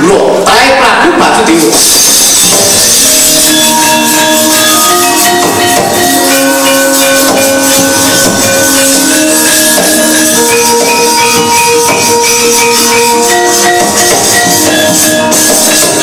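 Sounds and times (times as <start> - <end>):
metallophone notes ringing: 1.8 - 16.0.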